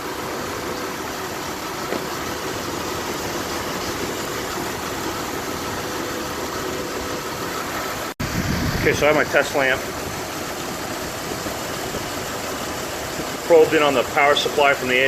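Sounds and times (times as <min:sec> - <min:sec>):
engine idling with misfire: 0:00.0 - 0:15.0.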